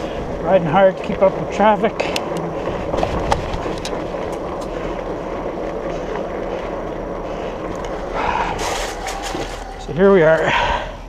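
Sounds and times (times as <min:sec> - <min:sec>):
bike tyres rolling on pavement: 0:00.0 - 0:11.0.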